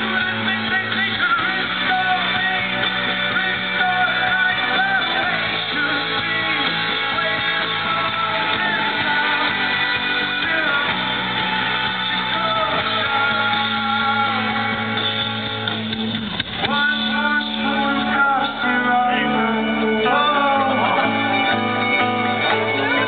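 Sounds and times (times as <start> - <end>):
person singing: 0.0 - 23.0
rock band guitars: 0.0 - 23.0.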